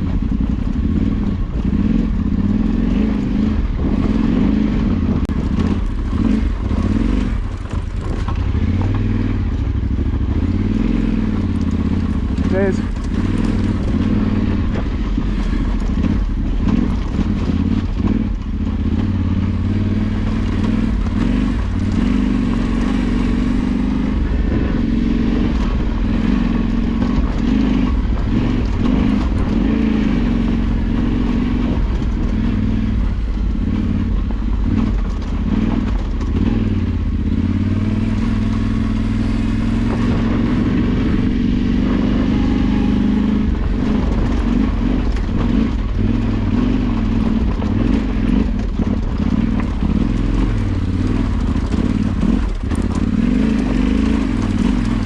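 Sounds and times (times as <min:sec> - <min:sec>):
off-road vehicle engine running: 0:00.0 - 0:55.0
rattle from bumpy ride: 0:05.1 - 0:41.3, 0:42.9 - 0:55.0.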